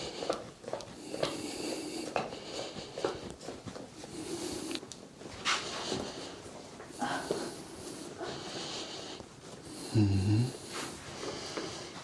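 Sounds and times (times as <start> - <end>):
breathy hiss: 1.0 - 3.3, 4.0 - 4.8, 5.4 - 12.0.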